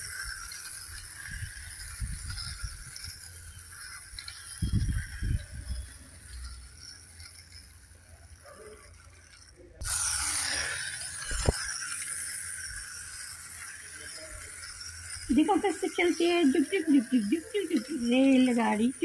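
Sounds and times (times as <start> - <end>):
toy train motor whirring: 0.0 - 19.0.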